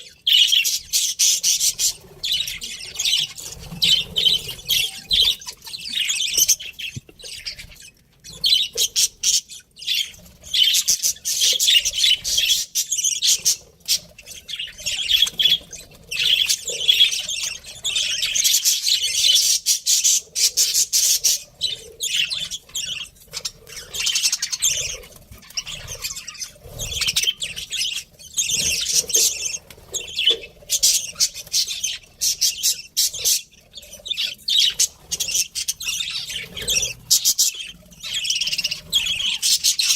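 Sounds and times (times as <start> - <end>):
budgies chirping and chattering: 0.0 - 39.9.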